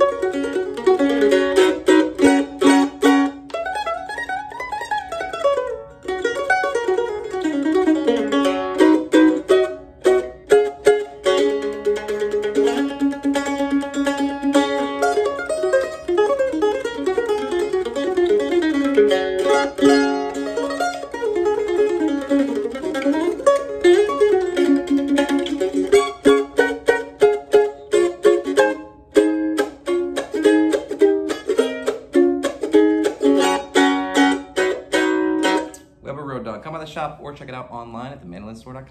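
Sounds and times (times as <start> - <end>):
mandolin picking: 0.0 - 36.0.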